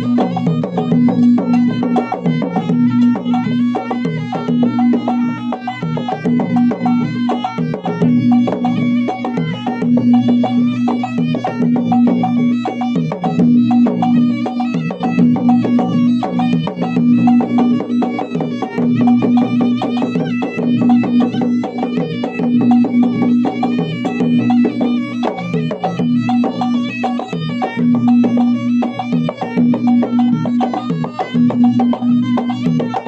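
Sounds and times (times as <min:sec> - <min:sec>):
drums in fast rhythm: 0:00.0 - 0:33.0
reedy wind melody: 0:00.0 - 0:33.0.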